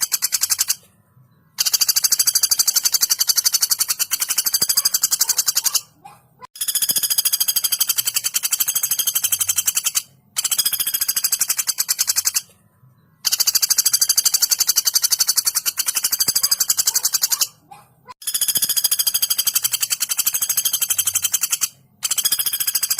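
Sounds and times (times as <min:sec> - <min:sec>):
woodpecker rattling trills: 0:00.0 - 0:00.9, 0:01.5 - 0:12.5, 0:13.2 - 0:22.9.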